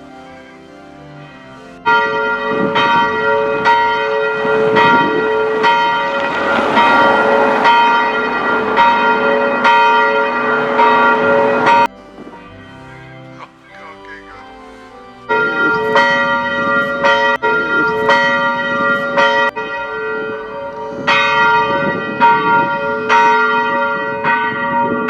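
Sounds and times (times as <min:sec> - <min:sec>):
church bell ringing: 0:00.0 - 0:25.0
soft hymn music: 0:00.0 - 0:25.0.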